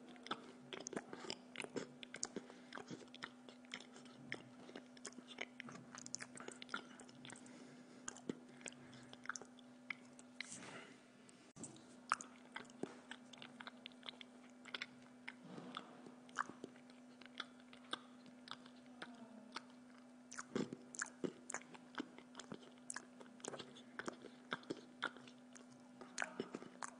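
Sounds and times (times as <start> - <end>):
person chewing food: 0.0 - 10.9, 11.5 - 26.9
steady low hum: 0.0 - 26.9.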